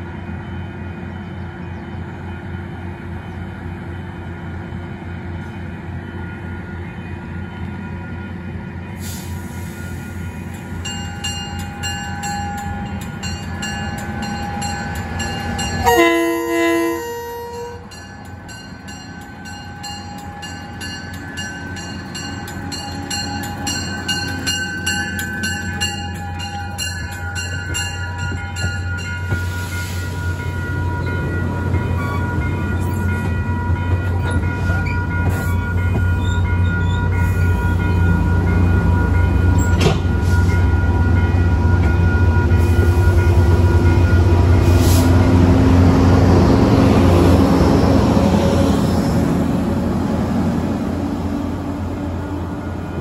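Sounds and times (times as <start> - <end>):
diesel train passing: 0.0 - 53.0.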